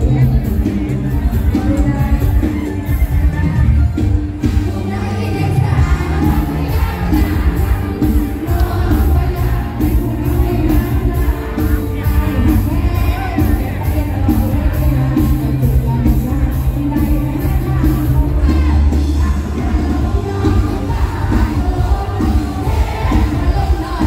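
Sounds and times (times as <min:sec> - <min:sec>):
live band through loud speakers: 0:00.0 - 0:24.0
person singing: 0:00.0 - 0:24.0.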